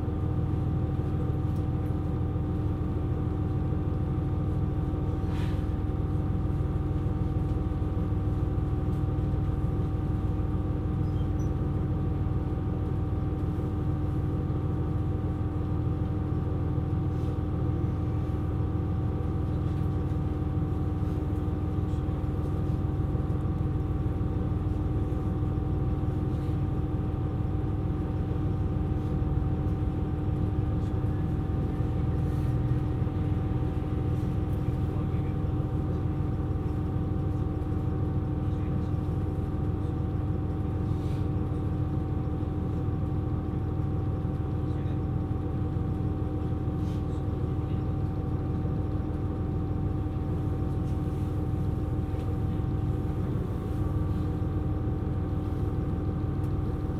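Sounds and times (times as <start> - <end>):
diesel railcar engine droning: 0.0 - 56.9.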